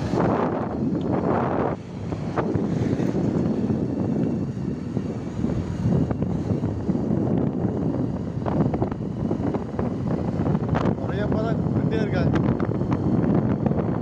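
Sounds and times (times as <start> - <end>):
motorcycle engine and road rumble: 0.0 - 14.0
wind rushing over microphone: 0.0 - 14.0.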